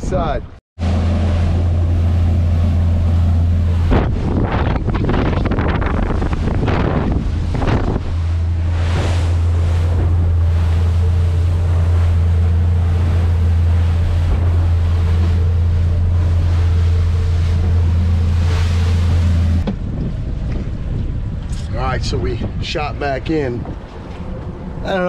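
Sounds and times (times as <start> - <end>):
boat engine drone: 0.8 - 25.0
hull slapping waves: 0.8 - 25.0
wind noise on microphone: 1.6 - 24.9.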